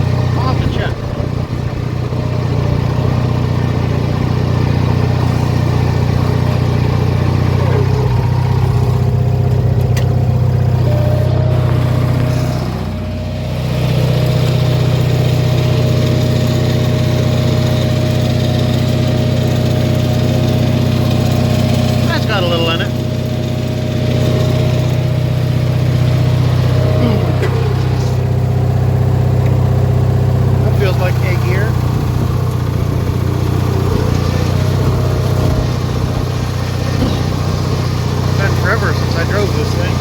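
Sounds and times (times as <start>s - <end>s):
riding mower engine running: 0.0s - 40.0s.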